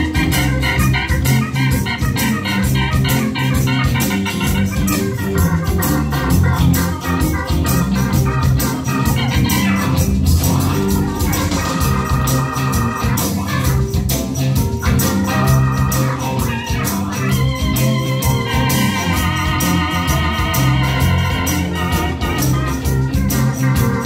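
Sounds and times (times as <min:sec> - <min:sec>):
harmonica: 0:00.0 - 0:24.0
live band playing: 0:00.0 - 0:24.0.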